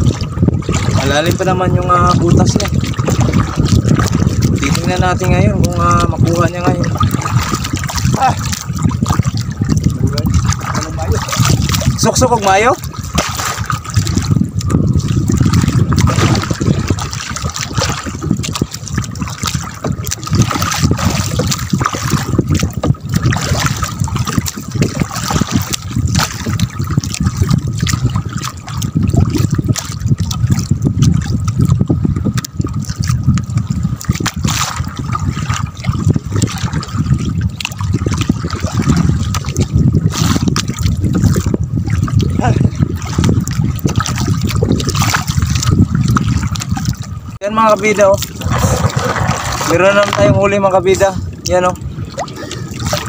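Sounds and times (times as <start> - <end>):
water sloshing and trickling: 0.0 - 53.0.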